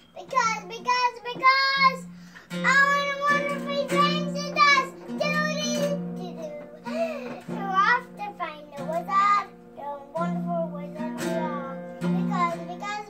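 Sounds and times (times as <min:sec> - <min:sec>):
acoustic guitar strumming: 0:00.0 - 0:13.0
child singing: 0:00.2 - 0:13.0.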